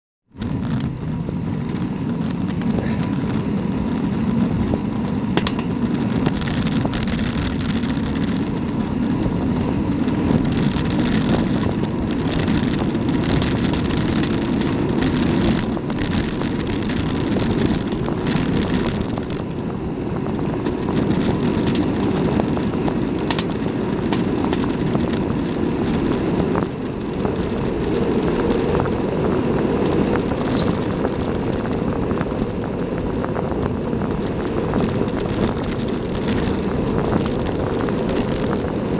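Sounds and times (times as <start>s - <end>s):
tyre noise on asphalt: 0.2s - 38.9s
wind rushing over microphone: 0.3s - 38.9s.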